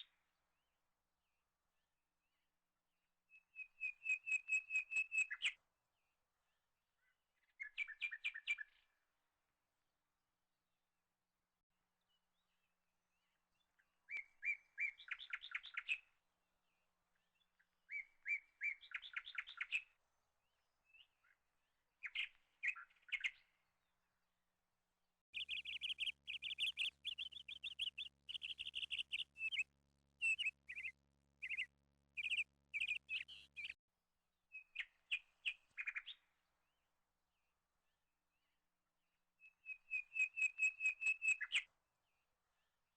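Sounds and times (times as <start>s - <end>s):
songbird chirping song: 0.0s - 10.0s, 11.7s - 42.9s.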